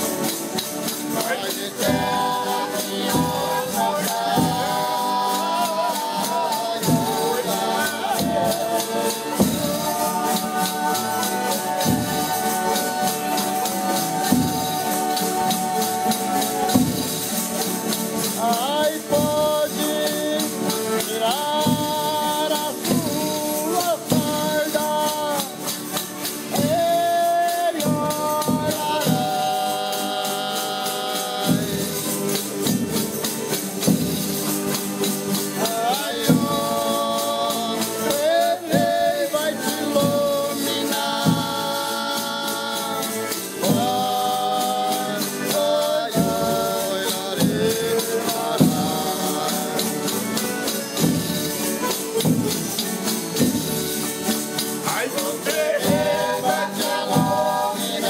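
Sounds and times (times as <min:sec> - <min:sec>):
tambourines jingling: 0:00.0 - 0:58.0
voices singing in harmony: 0:00.0 - 0:58.0.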